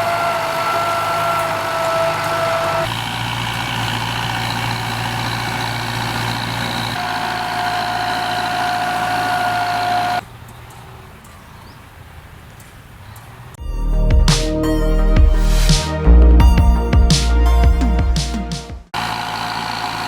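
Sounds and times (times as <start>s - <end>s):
tractor diesel engine running: 0.0s - 12.2s, 15.0s - 20.0s.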